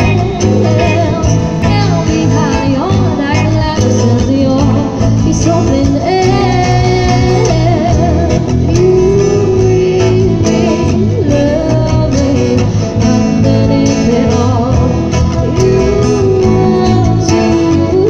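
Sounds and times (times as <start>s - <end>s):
drum kit: 0.0s - 18.0s
electric guitars: 0.0s - 18.0s
woman singing: 0.0s - 18.0s.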